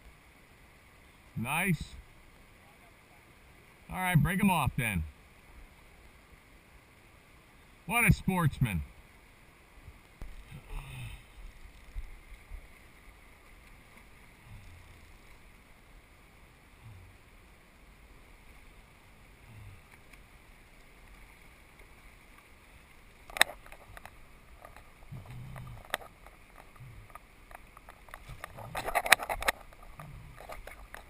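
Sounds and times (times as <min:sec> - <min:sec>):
river water running: 0:00.0 - 0:31.0.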